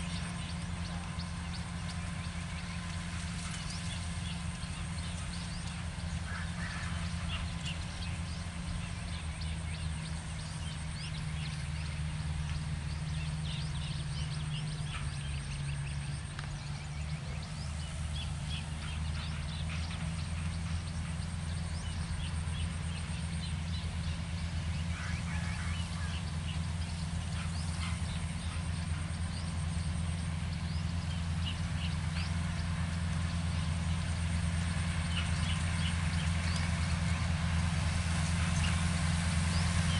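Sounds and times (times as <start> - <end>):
bird calls: 0.0 - 39.9
tractor engine running: 0.0 - 39.9.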